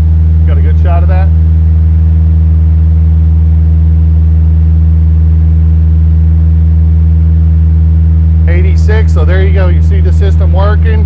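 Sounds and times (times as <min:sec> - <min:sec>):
pickup engine idling: 0:00.0 - 0:11.0.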